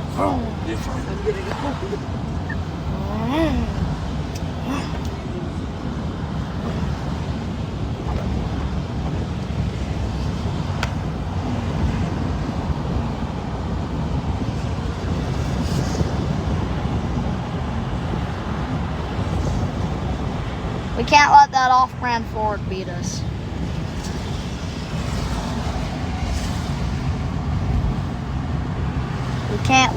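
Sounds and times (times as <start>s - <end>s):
engine and tyre rumble: 0.0s - 29.9s.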